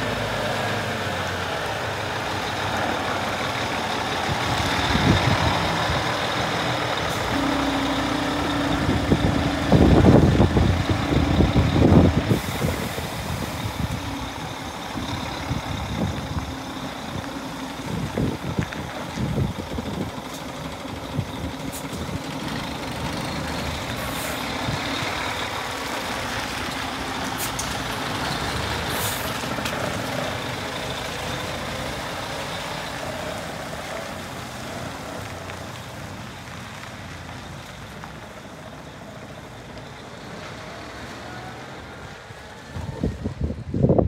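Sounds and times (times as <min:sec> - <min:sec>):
heavy truck driving on gravel: 0:00.0 - 0:44.0.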